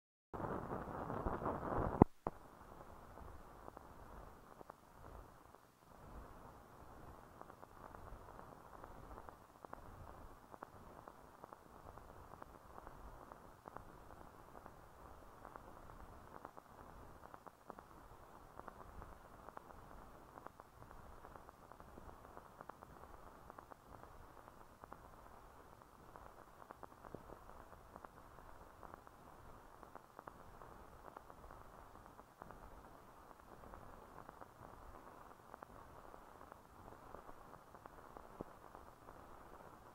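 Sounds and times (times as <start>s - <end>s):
film hiss with crackles: 0.4s - 39.9s.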